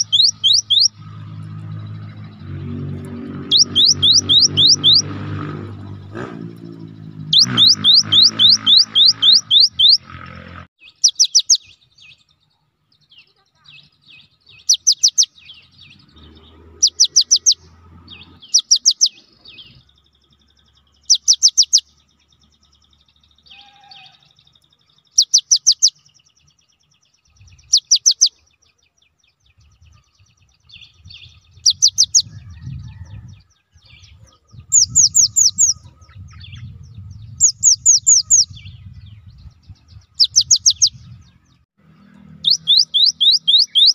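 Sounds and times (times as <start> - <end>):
soft bird twittering: 0.0 - 43.9.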